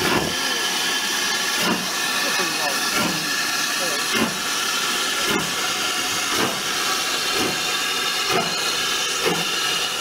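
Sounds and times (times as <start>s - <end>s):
steam hissing: 0.0s - 10.0s
steam locomotive exhaust chuffs: 0.0s - 10.0s.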